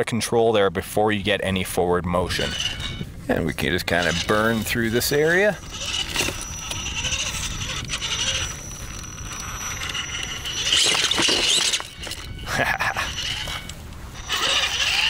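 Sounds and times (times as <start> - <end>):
high electric motor whine: 2.2 - 15.0
tyres scraping on stone: 2.3 - 15.0.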